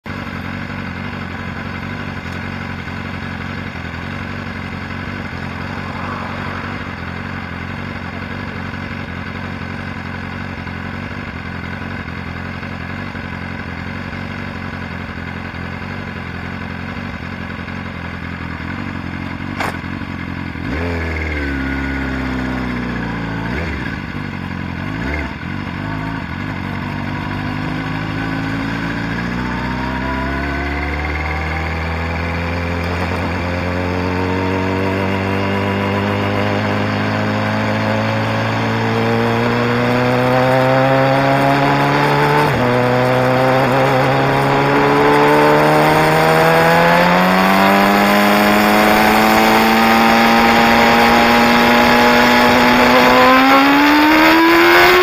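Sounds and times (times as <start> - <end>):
motorcycle engines idling: 0.1 - 47.5.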